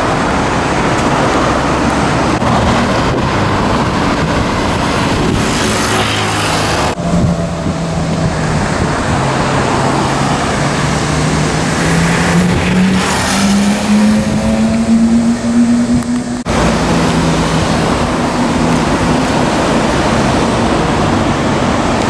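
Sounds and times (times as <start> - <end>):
supercar engine accelerating: 0.0 - 22.0
traffic noise: 0.0 - 22.0.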